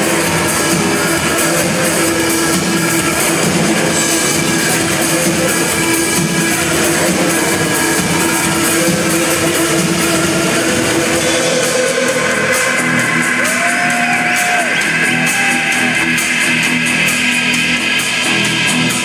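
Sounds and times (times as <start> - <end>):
rock band playing: 0.0 - 19.0.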